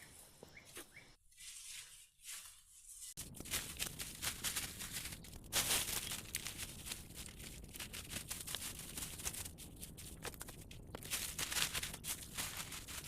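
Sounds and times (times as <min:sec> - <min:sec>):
rustling and crackling: 0:01.6 - 0:13.0.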